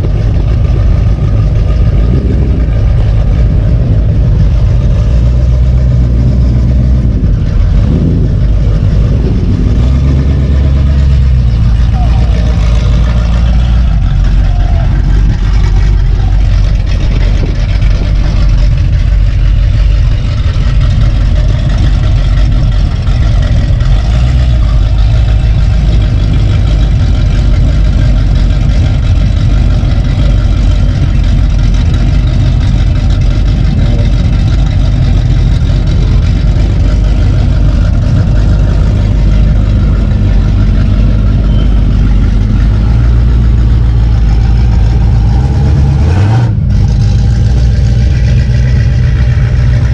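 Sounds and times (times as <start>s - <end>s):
vehicle engine rumbling: 0.0s - 49.9s.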